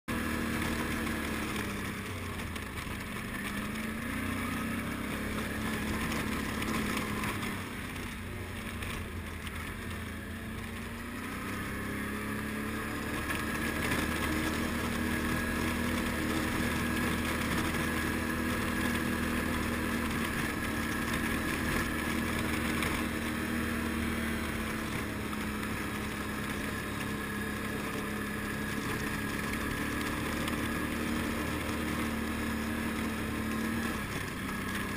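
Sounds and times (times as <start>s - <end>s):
quad bike engine under load: 0.1s - 34.9s.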